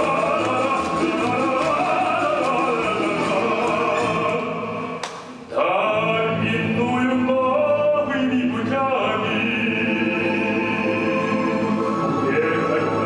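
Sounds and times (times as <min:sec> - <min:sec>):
operatic singing: 0:00.0 - 0:13.0
orchestral music: 0:00.0 - 0:13.0.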